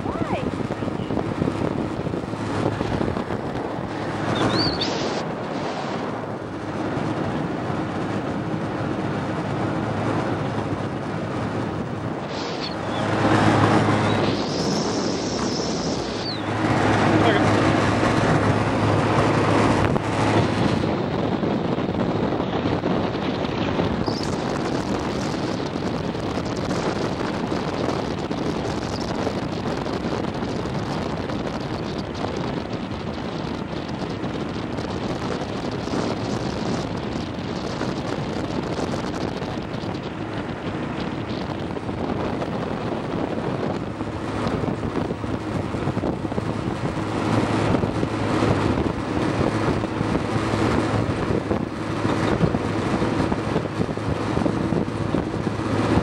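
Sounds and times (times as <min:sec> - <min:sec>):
car road noise: 0:00.0 - 0:56.0
wind rushing over microphone: 0:00.0 - 0:56.0.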